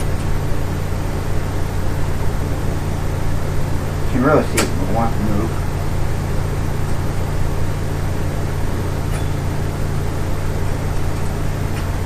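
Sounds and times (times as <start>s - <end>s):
tape recorder motor humming: 0.0s - 12.0s.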